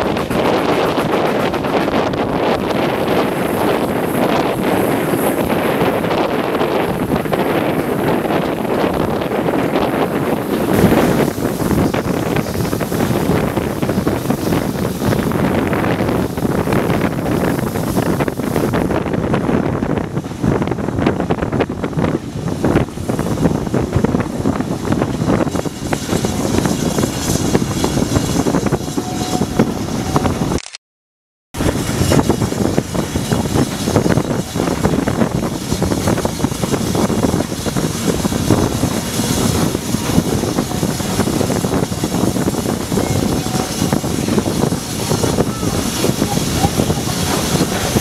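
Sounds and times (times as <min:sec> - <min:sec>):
train wheels and carriage rattle: 0:00.0 - 0:30.6, 0:31.6 - 0:48.0
wind on microphone: 0:00.0 - 0:30.7, 0:31.6 - 0:48.0.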